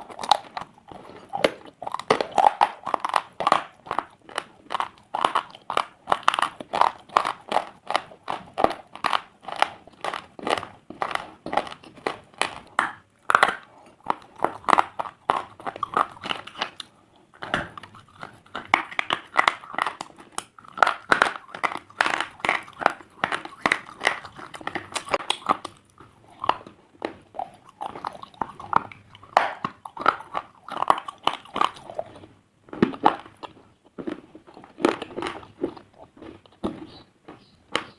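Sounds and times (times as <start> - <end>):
slate crunching: 0.0 - 37.9.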